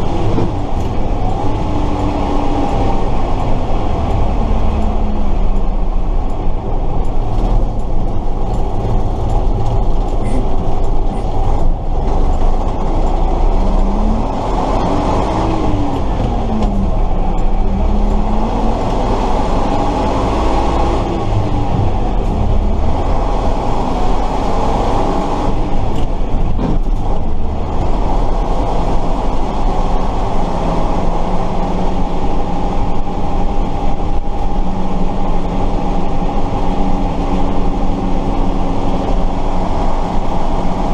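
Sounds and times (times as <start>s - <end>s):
drivetrain whine: 0.0s - 40.9s
truck engine rumbling: 0.0s - 40.9s.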